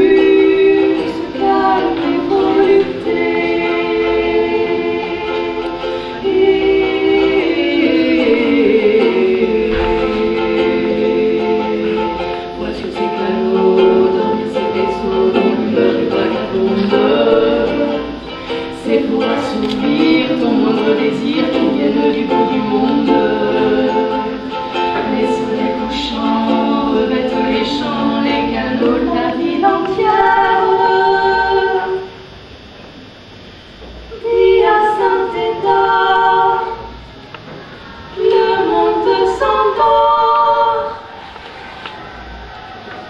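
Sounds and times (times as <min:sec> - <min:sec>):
ukulele strumming: 0:00.0 - 0:32.2, 0:37.4 - 0:42.2
women singing: 0:00.0 - 0:32.3, 0:34.1 - 0:37.0, 0:37.7 - 0:42.0.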